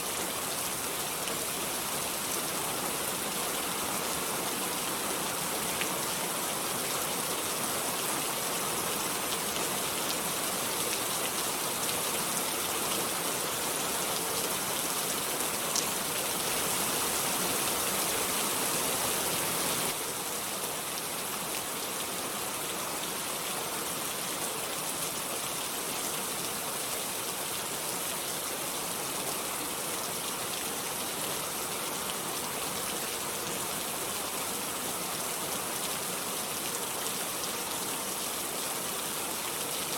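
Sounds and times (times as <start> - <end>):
steady dense rain: 0.0 - 39.9.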